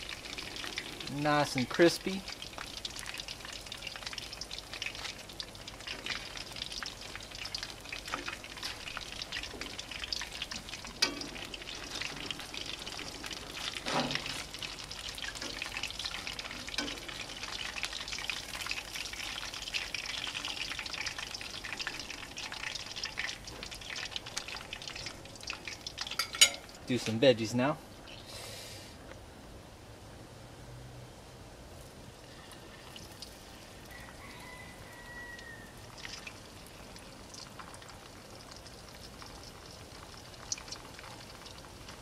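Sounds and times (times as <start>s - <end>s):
fish sizzling in hot oil: 0.0s - 27.3s, 31.9s - 42.0s.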